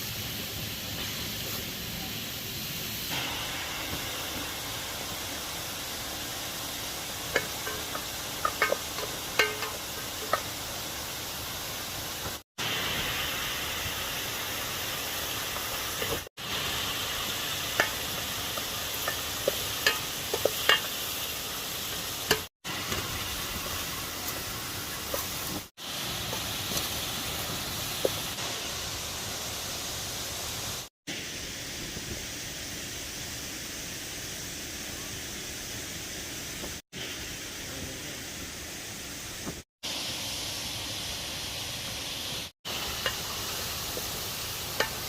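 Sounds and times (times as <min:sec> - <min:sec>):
steady hiss: 0:00.0 - 0:45.0.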